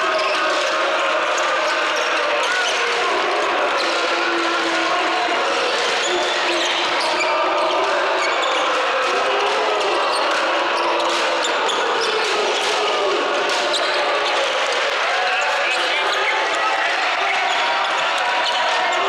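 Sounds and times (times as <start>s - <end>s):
crowd calling and cheering: 0.0s - 19.0s.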